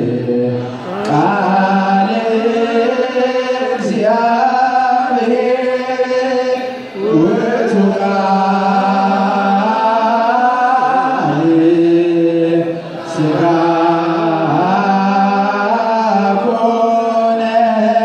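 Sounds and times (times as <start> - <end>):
voices chanting unaccompanied: 0.0 - 18.0.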